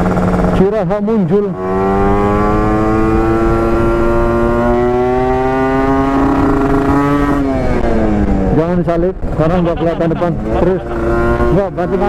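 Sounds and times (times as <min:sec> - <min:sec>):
two-stroke motorcycle engine: 0:00.0 - 0:12.0.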